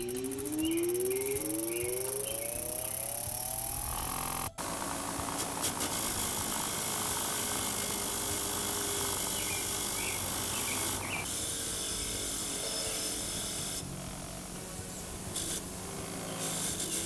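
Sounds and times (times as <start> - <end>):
bench grinder wire wheel scouring metal: 0.0 - 17.0.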